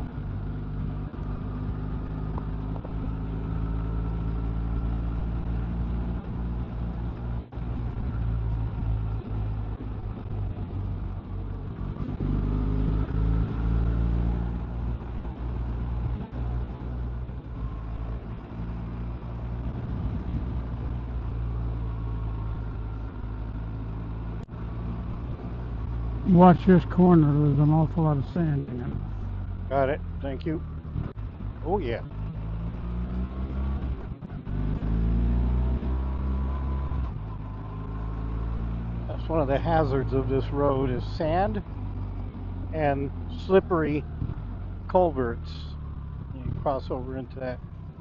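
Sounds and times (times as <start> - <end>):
wind and road noise: 0.0 - 48.0.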